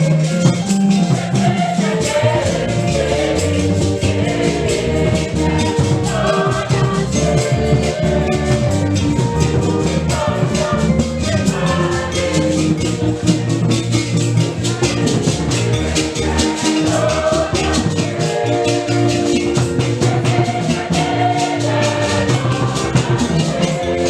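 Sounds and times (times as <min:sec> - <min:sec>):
shaker rhythm: 0:00.0 - 0:24.0
upbeat music: 0:00.0 - 0:24.0.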